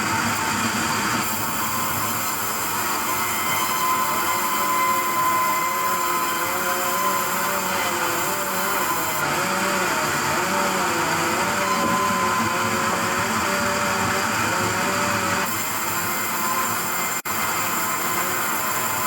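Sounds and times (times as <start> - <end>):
wood-cutting machinery whine: 0.0 - 19.0.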